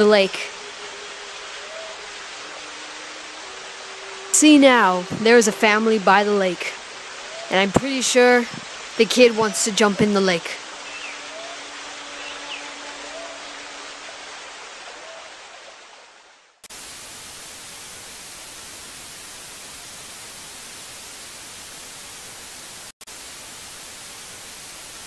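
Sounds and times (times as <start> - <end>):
faint outdoor lake ambience: 0.0 - 25.0
steady static hiss: 0.0 - 25.0.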